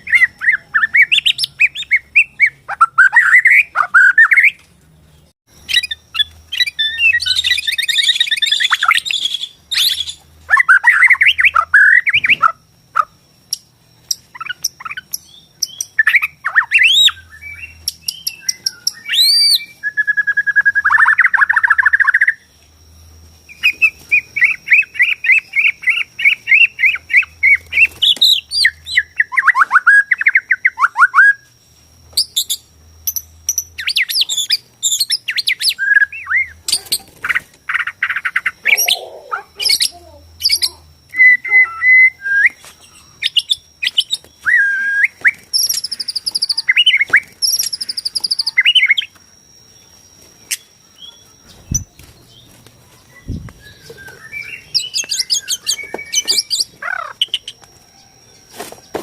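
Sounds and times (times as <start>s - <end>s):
bird singing whistles and trills: 0.0s - 4.6s, 5.2s - 22.6s, 23.5s - 31.5s, 32.1s - 59.0s.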